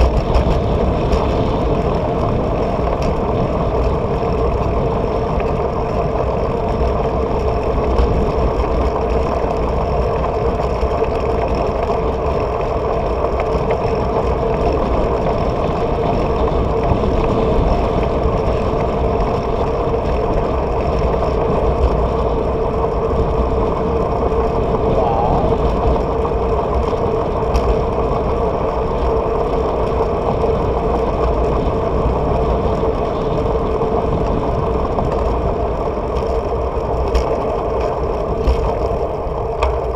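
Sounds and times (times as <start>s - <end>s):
constant hum: 0.0s - 39.9s
road noise from moving bike: 0.0s - 39.9s
wind rumble: 0.0s - 39.9s.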